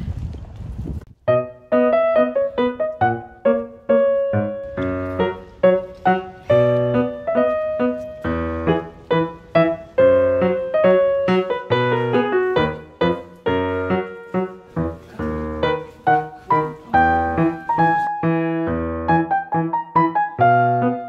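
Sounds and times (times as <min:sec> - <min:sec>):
piano music: 0:01.2 - 0:21.0.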